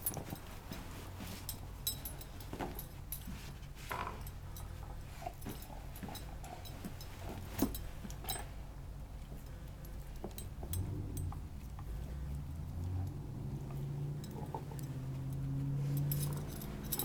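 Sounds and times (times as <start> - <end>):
collar tags jingling: 0.0 - 17.0.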